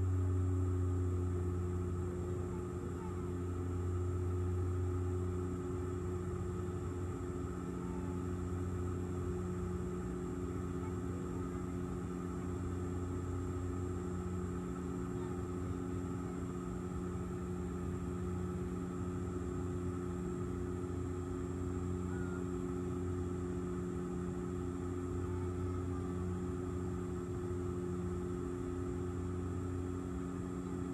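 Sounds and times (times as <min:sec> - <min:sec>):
airliner engine drone: 0:00.0 - 0:30.9
low hum: 0:00.0 - 0:30.9.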